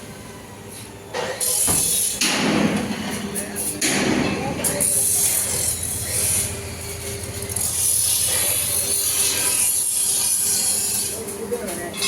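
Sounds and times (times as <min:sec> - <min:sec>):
workshop machinery hissing and rattling: 0:00.7 - 0:12.0.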